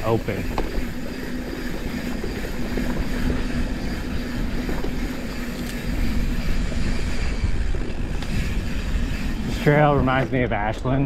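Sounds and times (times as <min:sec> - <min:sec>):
bike parts rattling and clicking: 0:00.0 - 0:11.0
bike tyres on dirt: 0:00.0 - 0:11.0
wind rumble on microphone: 0:00.0 - 0:11.0.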